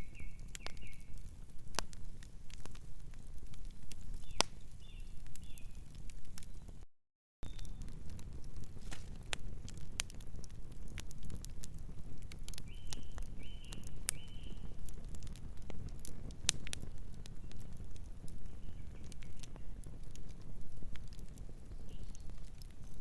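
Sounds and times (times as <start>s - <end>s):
wood fire crackling: 0.0s - 6.8s, 7.4s - 23.0s.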